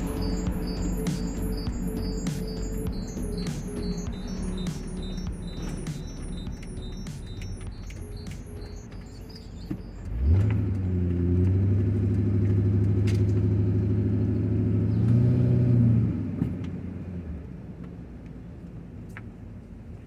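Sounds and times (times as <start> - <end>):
vehicle engine humming: 0.0 - 19.7.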